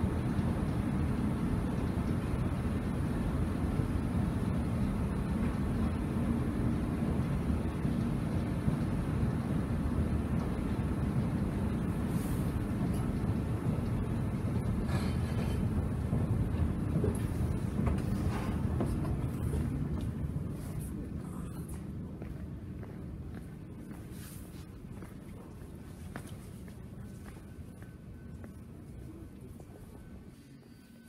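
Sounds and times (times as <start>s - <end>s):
escalator rumble and hum: 0.0s - 31.0s.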